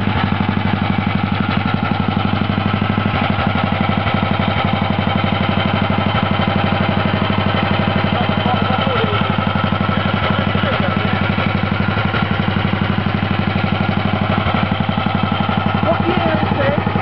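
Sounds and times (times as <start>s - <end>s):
racing engine idling: 0.0s - 17.0s.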